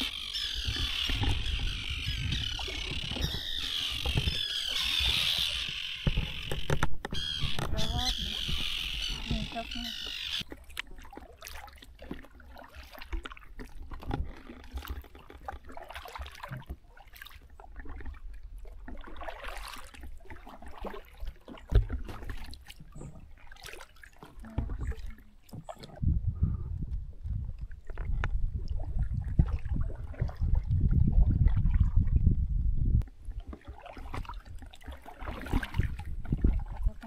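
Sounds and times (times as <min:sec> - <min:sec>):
paddles splashing in water: 0:00.0 - 0:26.1, 0:27.2 - 0:32.3, 0:33.0 - 0:37.0.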